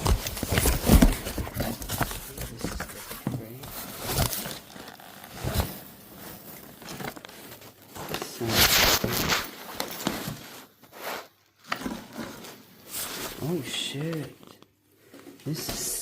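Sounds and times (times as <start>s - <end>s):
packaging and fabric rustling: 0.0s - 16.0s.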